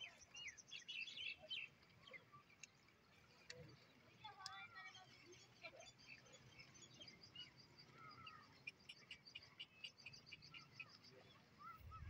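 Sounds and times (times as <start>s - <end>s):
faint small birds chirping: 0.0s - 12.0s.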